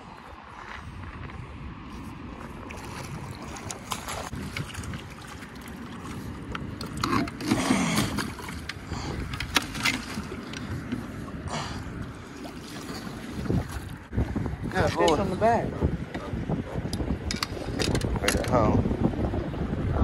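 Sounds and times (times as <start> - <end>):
wind and water noise: 0.0 - 20.0.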